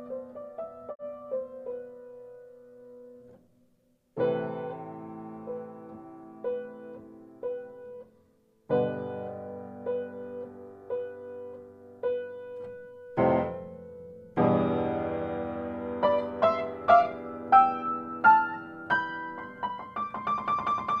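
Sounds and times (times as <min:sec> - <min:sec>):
piano music: 0:00.0 - 0:03.4, 0:04.2 - 0:21.0.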